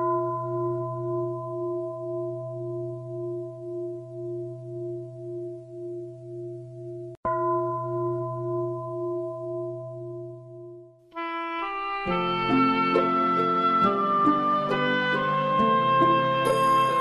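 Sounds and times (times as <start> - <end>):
singing bowl ringing: 0.0 - 11.2, 12.4 - 17.0.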